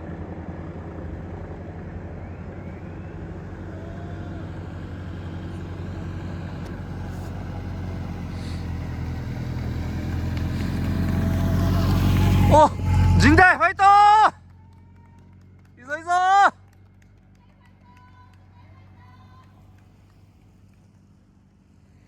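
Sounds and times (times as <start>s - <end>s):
approaching vehicle engine hum: 0.0s - 22.0s.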